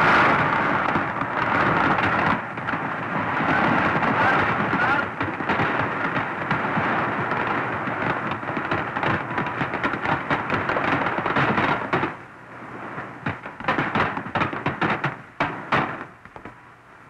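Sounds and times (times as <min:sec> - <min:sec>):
sharp cracks: 0:00.0 - 0:12.3, 0:13.0 - 0:16.6.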